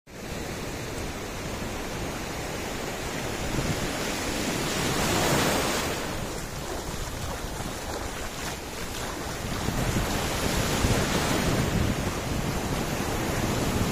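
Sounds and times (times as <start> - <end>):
waves breaking: 0.2 - 13.9
wind noise on microphone: 1.1 - 13.9.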